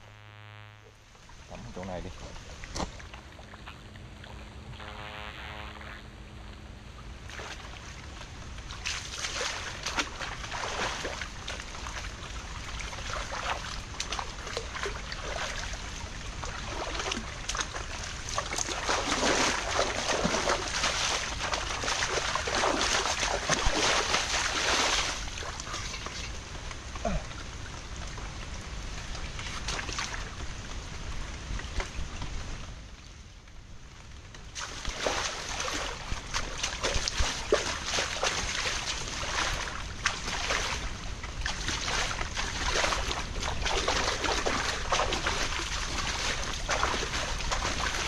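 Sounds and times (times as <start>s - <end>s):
water splashing and sloshing: 1.0s - 4.8s, 6.4s - 48.0s.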